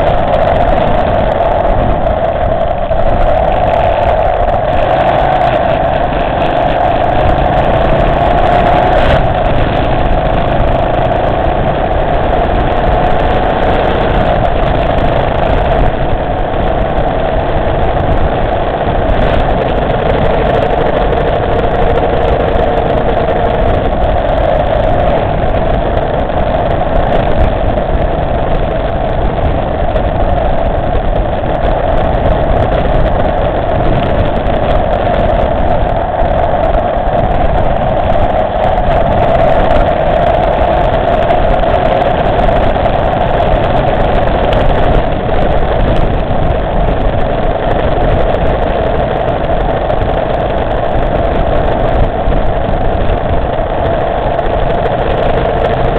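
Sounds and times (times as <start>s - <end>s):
motorcycle engine running: 0.0s - 55.9s
wind and road noise: 0.0s - 55.9s.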